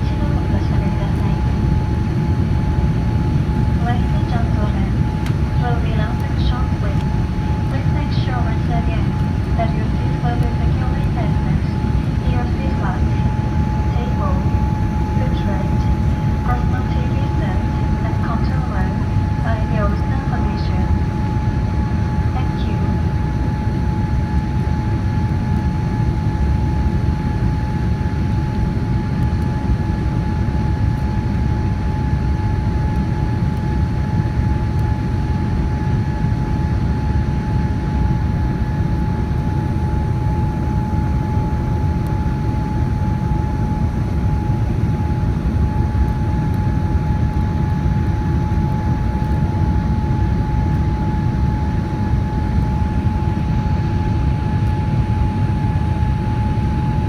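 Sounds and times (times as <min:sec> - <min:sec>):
aircraft cabin rumble: 0:00.0 - 0:57.0
constant mid-pitched tone: 0:00.0 - 0:57.0.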